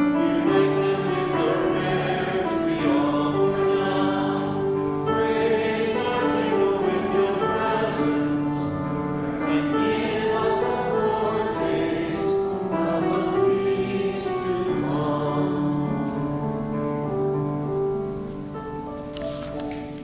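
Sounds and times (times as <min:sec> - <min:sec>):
congregation singing: 0:00.0 - 0:17.2.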